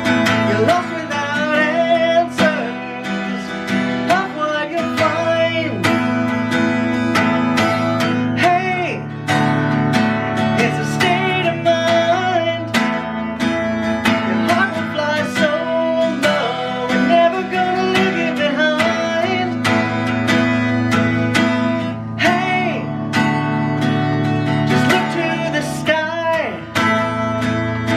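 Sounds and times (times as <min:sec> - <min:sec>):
person singing: 0:00.0 - 0:06.4, 0:08.1 - 0:09.3, 0:10.5 - 0:23.4, 0:24.2 - 0:27.9
acoustic guitar strumming: 0:00.0 - 0:27.9.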